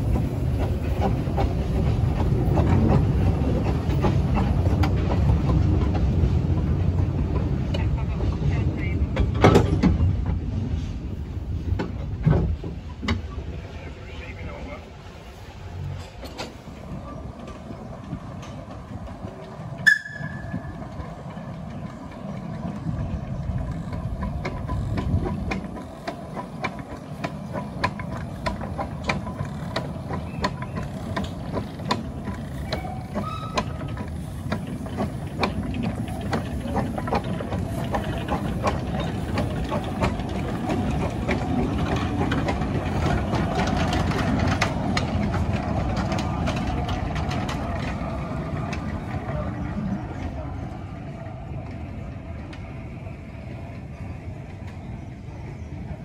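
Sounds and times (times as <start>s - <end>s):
wheels clicking on track: 0.0s - 14.9s, 15.6s - 56.0s
steam train passing: 0.0s - 56.0s.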